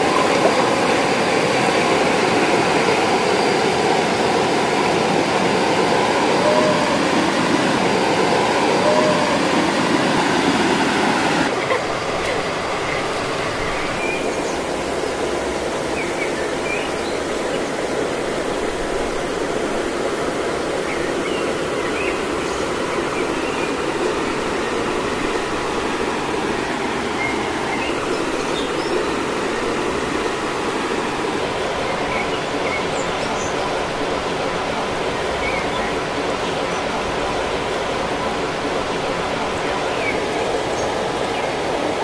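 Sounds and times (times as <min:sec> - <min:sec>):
waterfall and stream rushing: 0:00.0 - 0:42.0.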